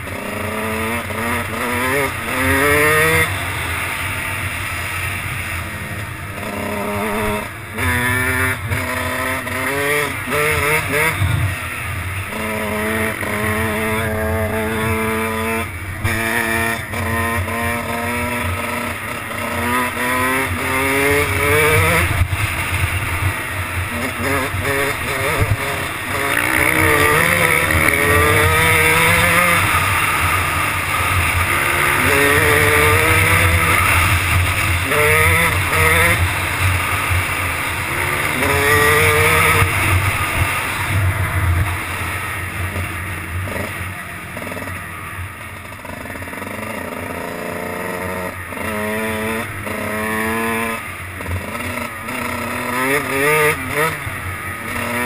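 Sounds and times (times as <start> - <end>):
dirt bike engine accelerating: 0.0 - 55.0.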